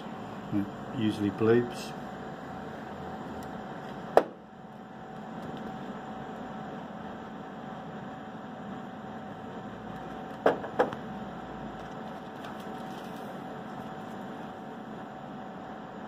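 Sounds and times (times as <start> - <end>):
recovery machine humming: 0.0 - 16.0.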